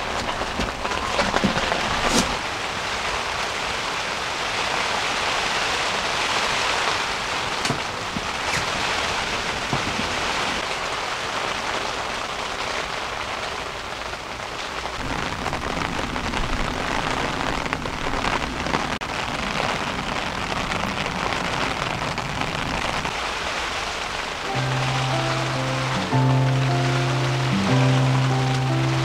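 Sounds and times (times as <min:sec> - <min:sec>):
heavy rain on tent fabric: 0:00.0 - 0:29.0.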